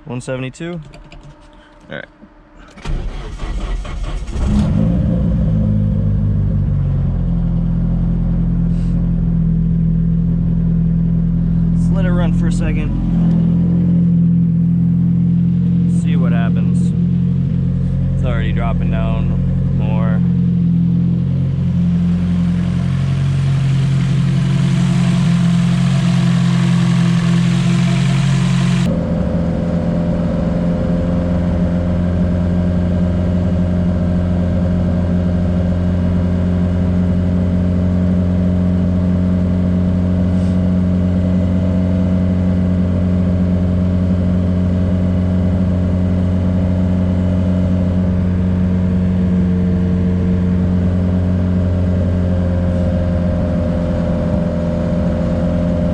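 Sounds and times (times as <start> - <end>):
car engine idling: 5.2 - 55.9.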